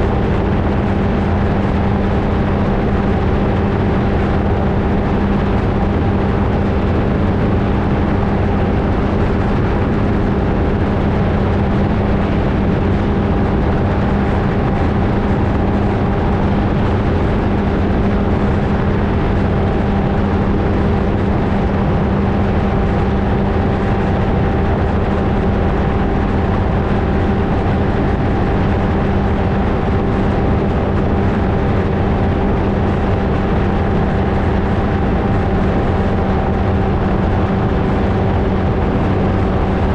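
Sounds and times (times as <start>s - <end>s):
ultralight engine and propeller droning: 0.0s - 39.9s
wind rushing over camera: 0.0s - 39.9s.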